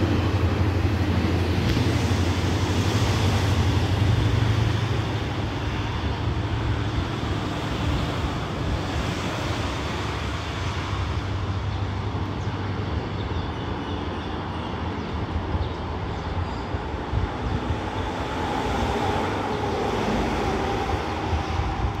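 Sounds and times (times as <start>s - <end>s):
locomotive low rumble: 0.0s - 22.0s
wind-like noise: 0.0s - 22.0s.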